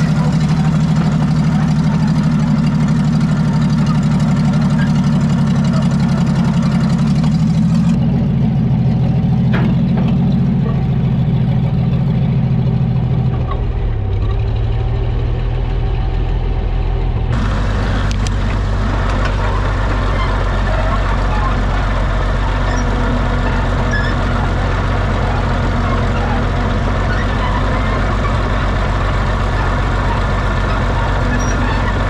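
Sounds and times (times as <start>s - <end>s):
crawler tractor engine running: 0.0s - 32.0s.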